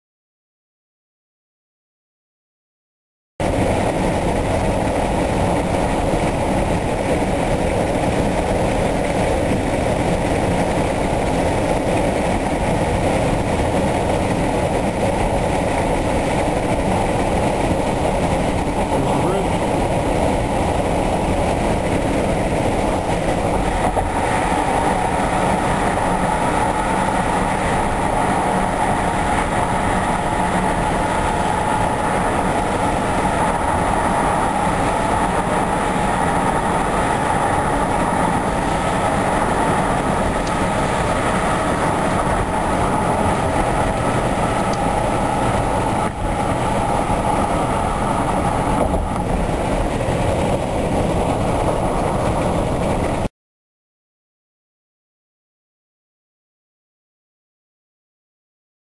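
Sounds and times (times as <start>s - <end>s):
tyre and road noise: 3.4s - 53.3s.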